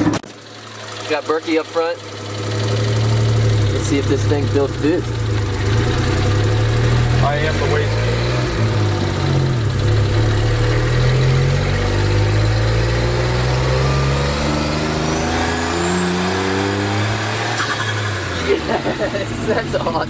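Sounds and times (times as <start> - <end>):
high turbo whine: 0.0 - 20.0
van engine accelerating: 0.0 - 20.0.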